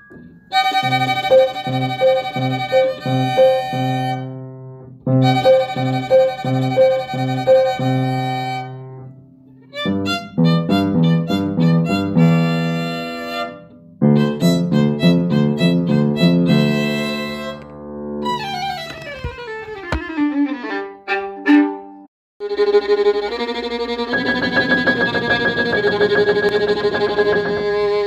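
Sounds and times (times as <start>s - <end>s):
experimental bowed string music: 0.0s - 4.4s, 5.0s - 28.0s.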